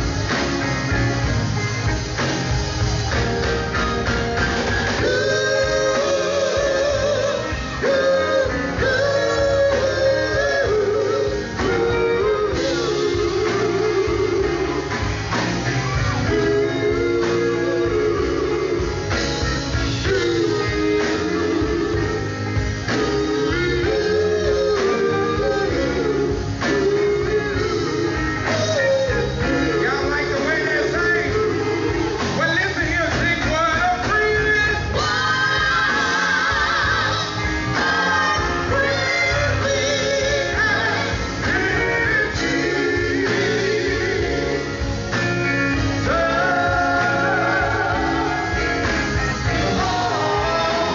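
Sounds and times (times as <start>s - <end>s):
band playing: 0.0s - 50.9s
male vocal group singing: 4.9s - 50.9s.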